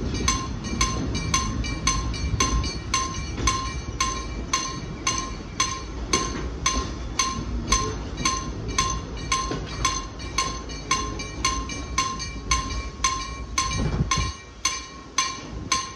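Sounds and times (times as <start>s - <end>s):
level crossing bell ringing: 0.0s - 15.9s.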